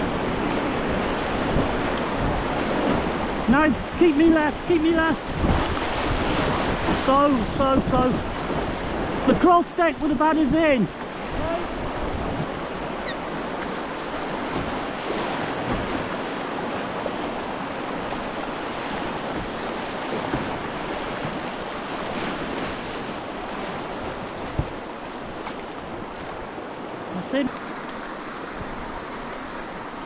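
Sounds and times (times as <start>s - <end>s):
wind on the microphone: 0.0s - 9.4s, 11.2s - 26.6s
whitewater rapids rushing: 0.0s - 30.0s.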